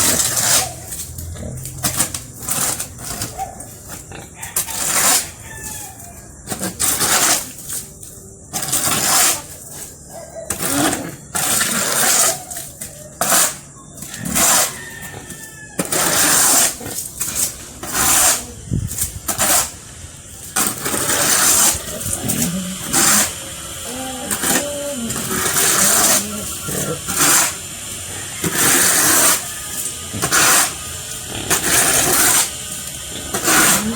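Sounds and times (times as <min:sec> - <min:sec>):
shovel scraping floor: 0:00.0 - 0:33.9.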